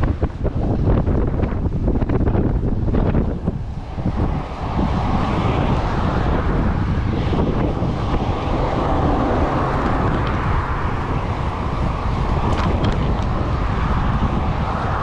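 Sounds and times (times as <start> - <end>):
wind on microphone: 0.0 - 15.0
passing road traffic: 1.6 - 15.0.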